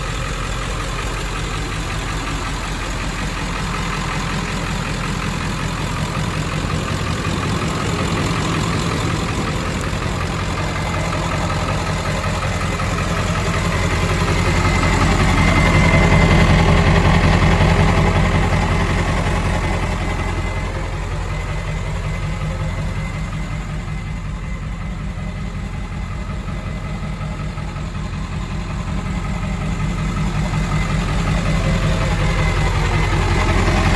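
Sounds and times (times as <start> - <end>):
turbocharged engine idling: 0.0 - 33.9.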